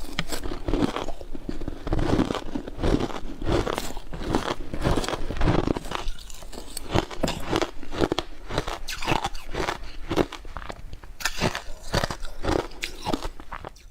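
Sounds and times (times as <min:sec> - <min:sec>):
ice crunching while chewed: 0:00.0 - 0:13.9.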